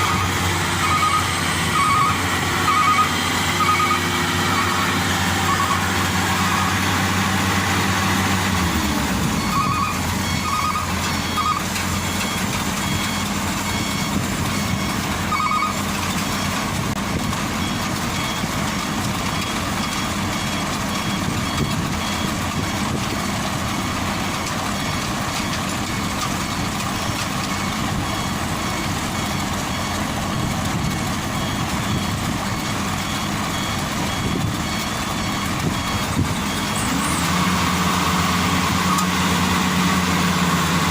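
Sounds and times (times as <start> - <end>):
reversing alarm beeping: 0.0 - 7.6, 8.2 - 38.1
heavy vehicle engine running: 0.0 - 40.9.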